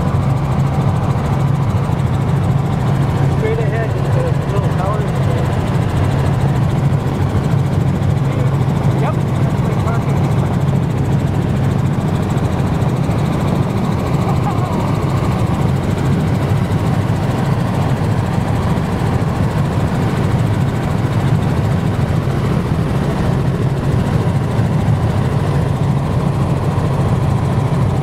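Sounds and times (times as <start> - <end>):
helicopter rotor and engine drone: 0.0 - 28.0.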